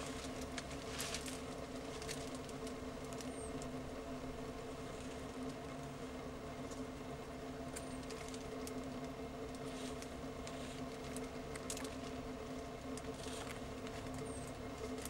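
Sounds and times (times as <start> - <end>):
low multi-tone hum: 0.0 - 15.0.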